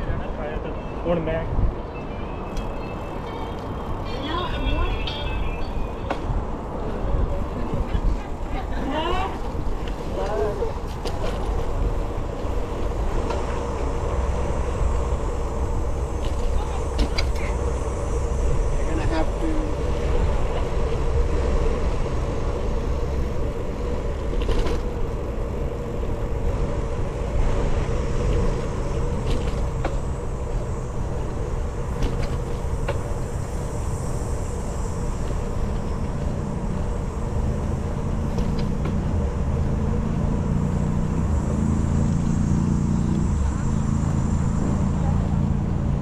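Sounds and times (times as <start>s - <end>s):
wind and road rumble: 0.0s - 46.0s.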